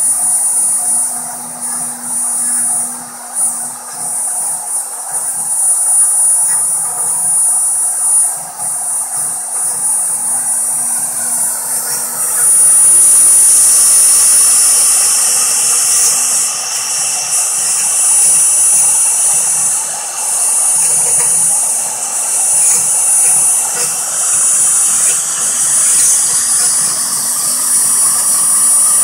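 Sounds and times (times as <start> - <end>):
end mill cutting plywood: 0.0 - 29.0
router spindle whine: 0.0 - 29.0.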